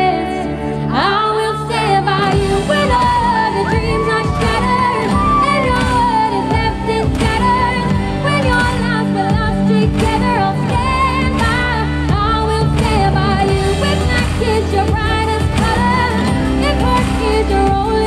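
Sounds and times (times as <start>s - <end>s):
pop backing track: 0.0s - 18.0s
woman singing into microphone: 0.0s - 18.0s.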